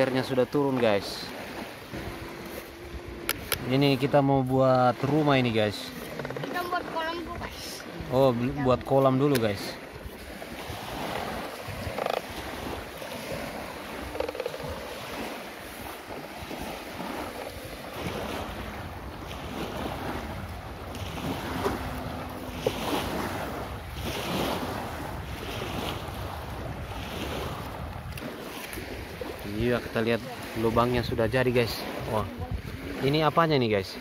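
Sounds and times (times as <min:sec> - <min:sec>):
wind buffeting microphone: 0:00.0 - 0:33.3
waves washing onto shore: 0:00.0 - 0:34.0.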